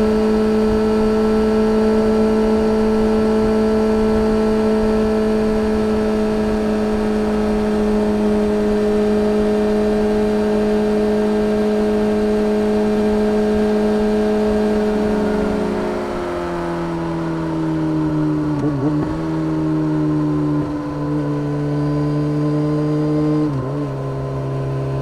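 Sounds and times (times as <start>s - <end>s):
low rumble of wind noise: 0.0s - 21.4s
motorcycle engine holding steady revs: 0.0s - 25.0s.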